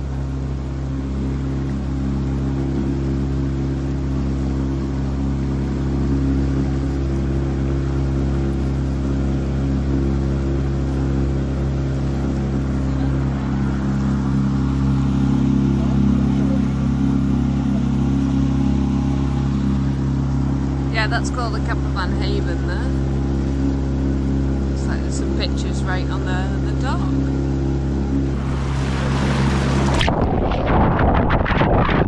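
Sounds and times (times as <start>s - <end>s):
motorboat engine running: 0.0s - 32.0s
water churning: 0.0s - 32.0s.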